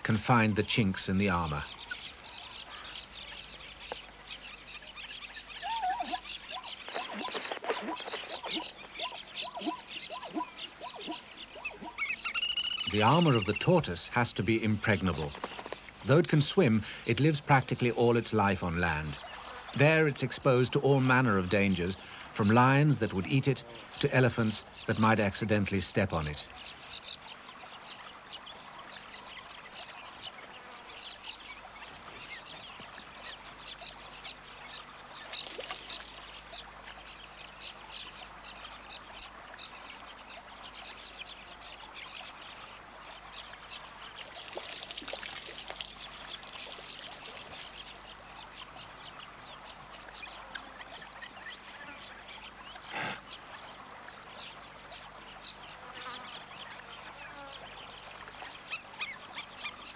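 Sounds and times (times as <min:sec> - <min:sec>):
small birds chirping: 0:00.0 - 0:59.9
water trickling and splashing: 0:01.0 - 0:59.9.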